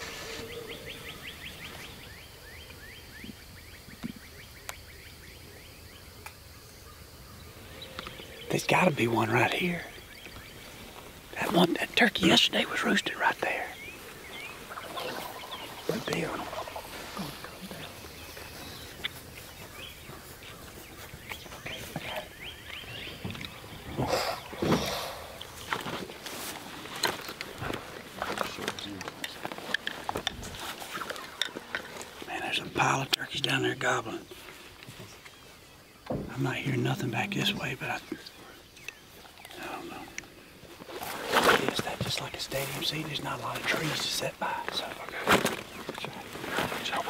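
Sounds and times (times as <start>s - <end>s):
faint steady hiss: 0.0s - 47.0s
small birds chirping: 0.0s - 47.0s.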